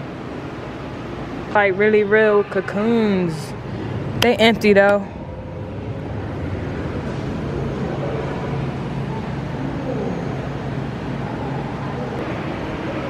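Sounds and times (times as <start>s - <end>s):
background hum and hiss: 0.0s - 13.0s
low constant tone: 0.0s - 13.0s.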